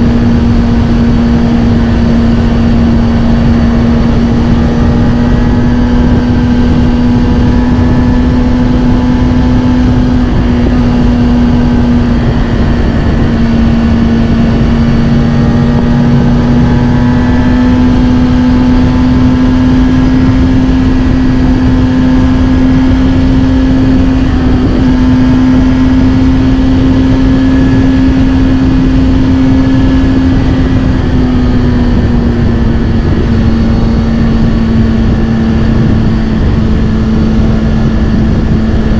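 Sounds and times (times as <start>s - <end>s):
motorcycle engine cruising: 0.0s - 38.9s
steady rushing noise: 0.0s - 38.9s.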